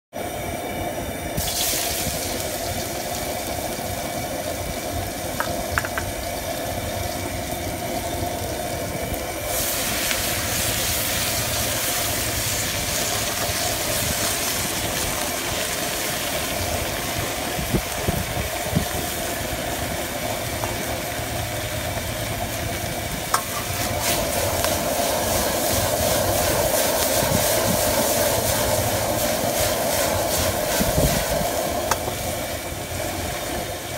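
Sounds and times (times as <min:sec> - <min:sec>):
food sizzling in a wok: 0:00.1 - 0:33.9
gas burner roaring: 0:00.1 - 0:33.9.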